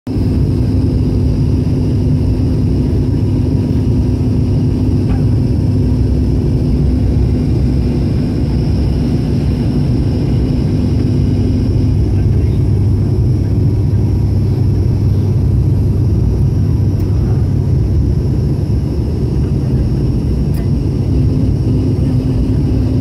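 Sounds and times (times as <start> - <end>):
turboprop cabin drone: 0.1 - 23.0.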